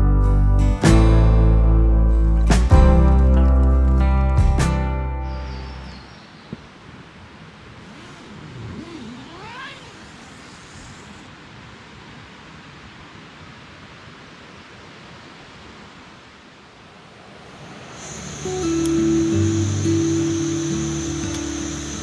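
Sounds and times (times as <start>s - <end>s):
stream rushing: 0.9s - 22.0s.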